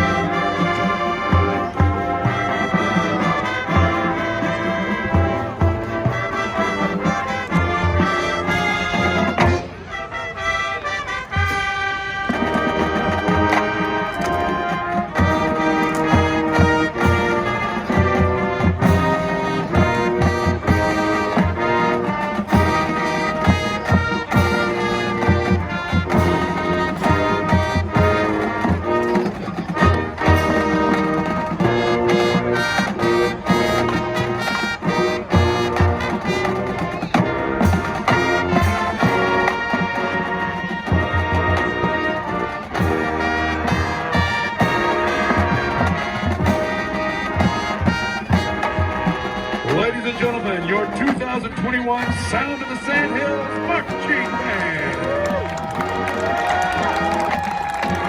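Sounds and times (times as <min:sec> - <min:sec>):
drums keeping steady beat: 0:00.0 - 0:09.9, 0:11.2 - 0:58.0
brass: 0:00.0 - 0:58.0
marching band playing: 0:00.0 - 0:58.0.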